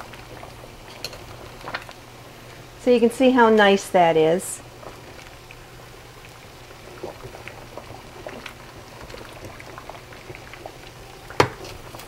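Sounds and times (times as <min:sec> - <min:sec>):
pot of water boiling: 0:00.0 - 0:12.0.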